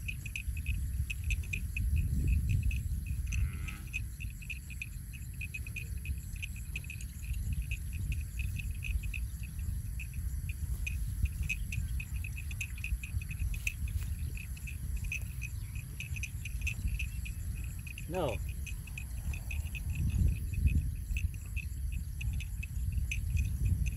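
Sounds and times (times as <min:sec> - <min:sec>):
insect chirping: 0:00.0 - 0:23.9.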